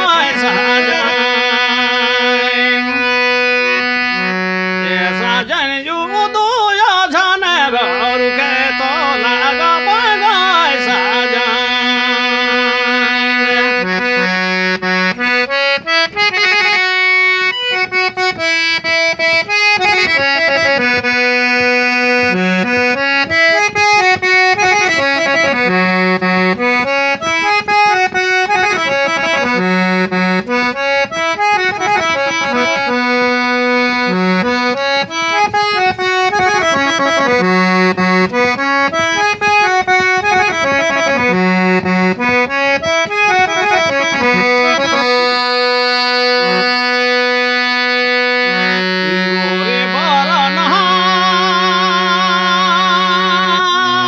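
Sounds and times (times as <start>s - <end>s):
harmonium melody: 0.0s - 54.0s.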